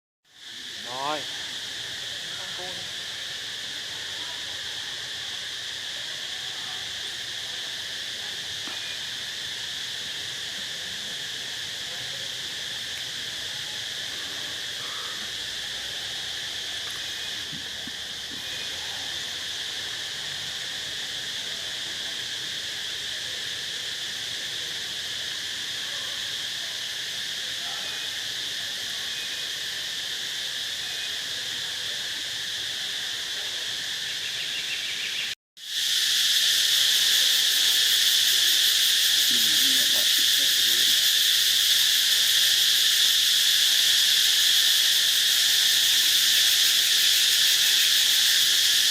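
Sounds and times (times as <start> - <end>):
insects singing: 0.4 - 24.4, 26.4 - 48.9.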